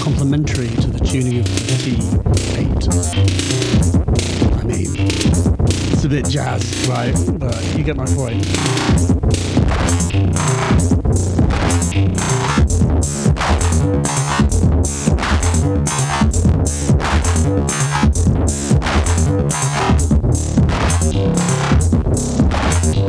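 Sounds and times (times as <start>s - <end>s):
electronic rhythm percussive hits: 0.0s - 23.0s
pulsing synth bass: 0.0s - 23.0s.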